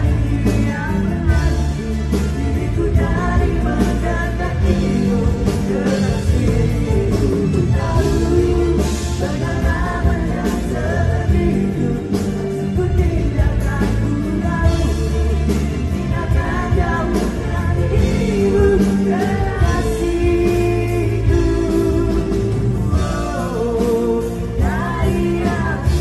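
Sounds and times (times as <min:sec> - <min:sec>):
man singing into a microphone: 0:00.0 - 0:26.0
rock band playing: 0:00.0 - 0:26.0.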